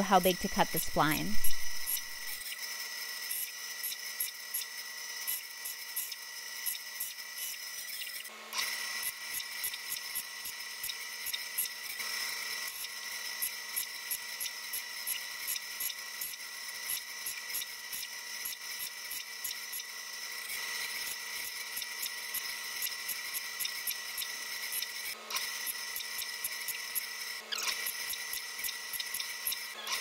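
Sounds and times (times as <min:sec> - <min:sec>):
bandsaw whining and ticking: 0:00.0 - 0:30.0
wood strips being cut: 0:01.5 - 0:30.0.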